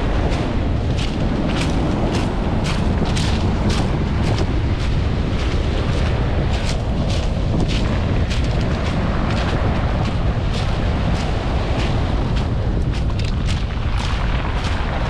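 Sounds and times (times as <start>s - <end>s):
sea surf breaking: 0.0s - 15.0s
strong wind on microphone: 0.0s - 15.0s.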